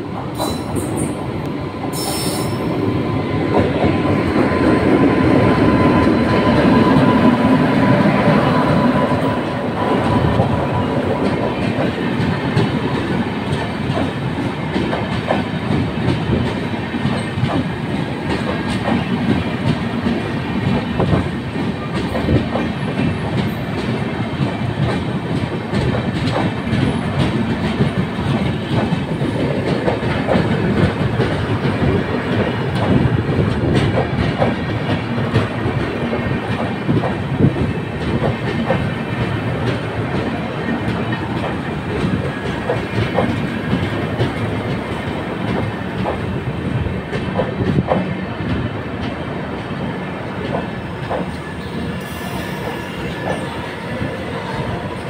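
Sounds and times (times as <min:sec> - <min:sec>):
train coaches rumbling past: 0:00.0 - 0:55.0.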